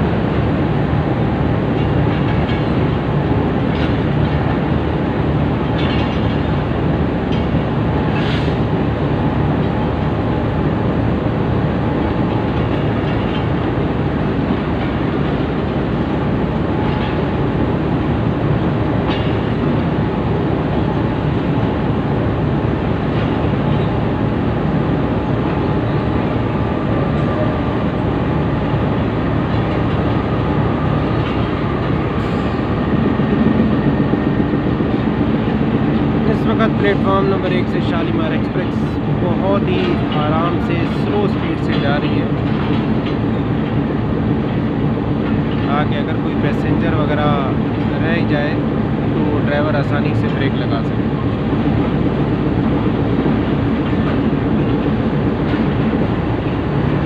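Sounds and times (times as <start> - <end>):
train coaches rolling on rails: 0.0 - 57.0.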